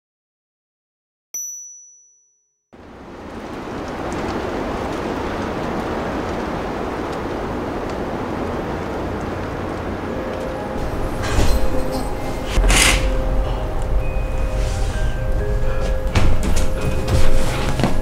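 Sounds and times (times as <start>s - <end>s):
rushing wind: 2.8s - 18.0s.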